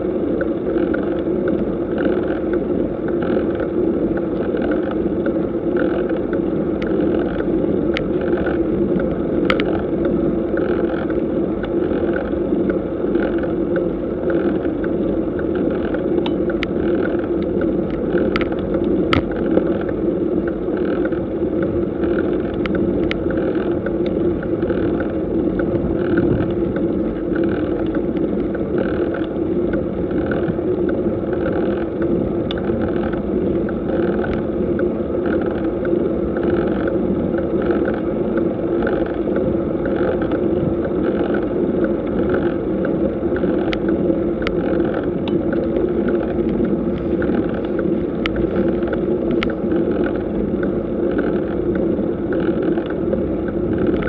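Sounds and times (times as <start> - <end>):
bicycle tyre noise: 0.0 - 54.0
wind noise: 0.0 - 54.0.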